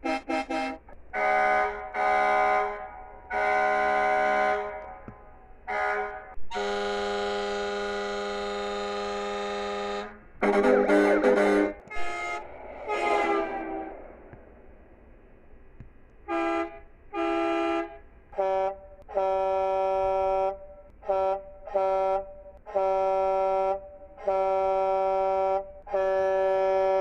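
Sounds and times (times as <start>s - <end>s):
truck air horn blasts: 0.0s - 14.5s, 16.3s - 27.0s.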